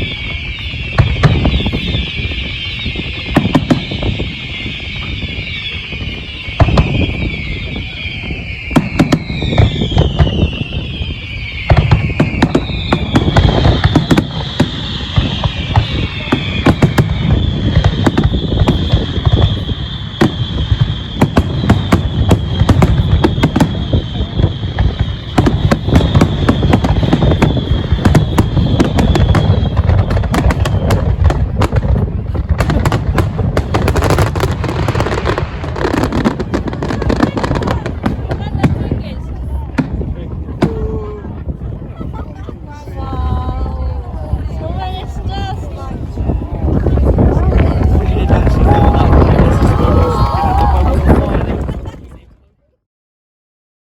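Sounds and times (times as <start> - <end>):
fireworks whistling: 0.0 - 52.2
fireworks bangs and crackling: 0.0 - 52.4.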